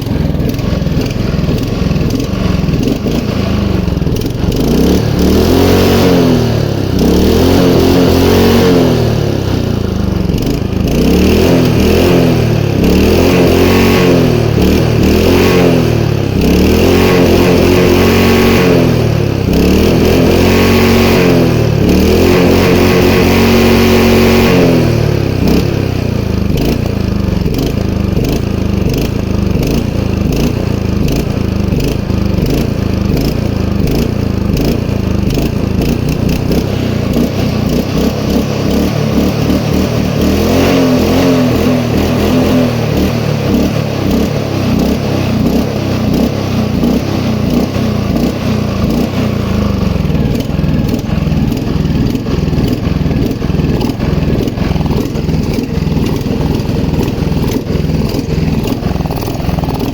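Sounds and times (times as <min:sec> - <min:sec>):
lawn mower engine revving: 0:00.0 - 0:59.9.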